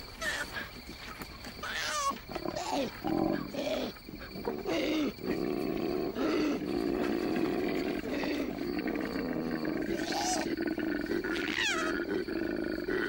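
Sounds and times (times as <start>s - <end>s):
koala bellowing: 1.6s - 13.0s.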